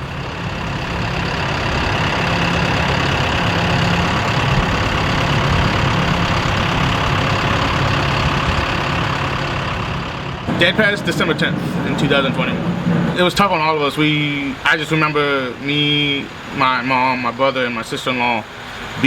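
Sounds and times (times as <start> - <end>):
engine running with low hum: 0.0 - 17.3.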